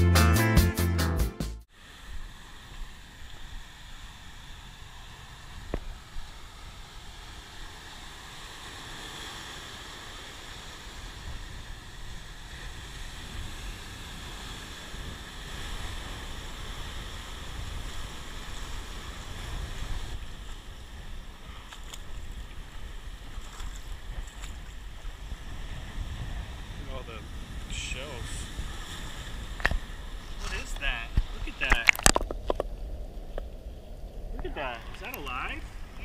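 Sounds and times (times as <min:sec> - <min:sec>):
surf breaking over rocks: 0:01.8 - 0:36.0
wind rumbling on microphone: 0:01.8 - 0:36.0.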